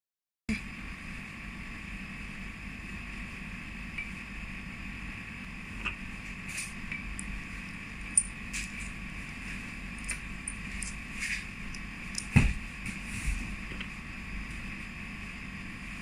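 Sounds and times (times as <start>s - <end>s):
steady background hum: 0.5s - 16.0s.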